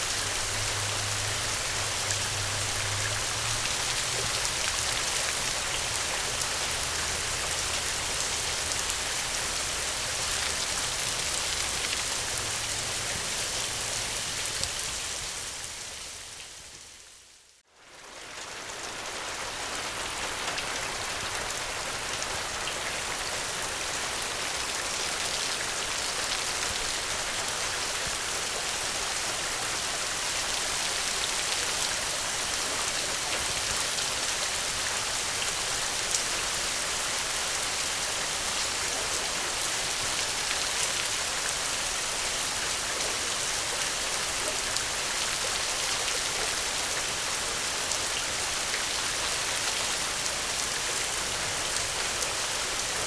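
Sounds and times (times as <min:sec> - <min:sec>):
gentle rain falling: 0:00.0 - 0:53.0.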